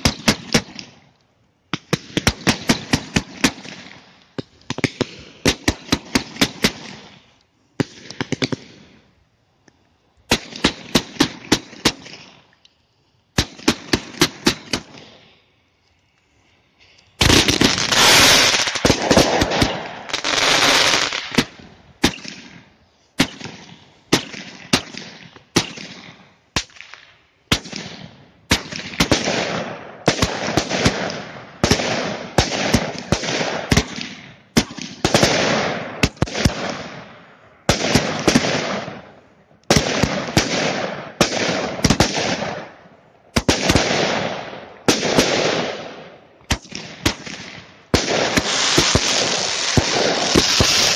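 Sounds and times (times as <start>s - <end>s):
fireworks bangs and crackling: 0.0s - 1.1s, 1.7s - 9.2s, 10.3s - 12.5s, 13.3s - 15.3s, 17.2s - 50.9s.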